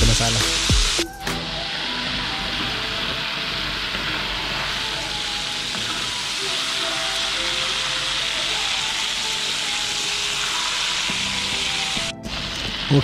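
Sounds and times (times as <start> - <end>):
meat deep-frying in oil: 0.0 - 13.0.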